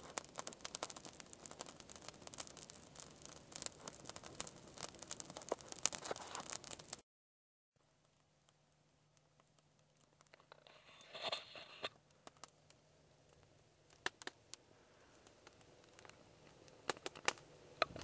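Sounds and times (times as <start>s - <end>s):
campfire crackling: 0.0s - 7.0s, 7.8s - 18.0s.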